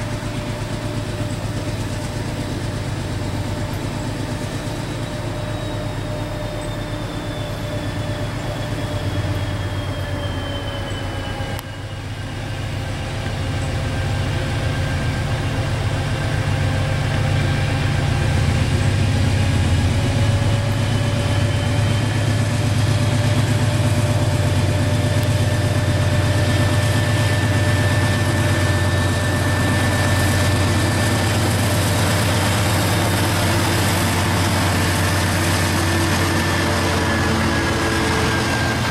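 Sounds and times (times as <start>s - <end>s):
locomotive engine drone: 0.0s - 38.9s
thin whine shifting in pitch: 2.2s - 38.9s.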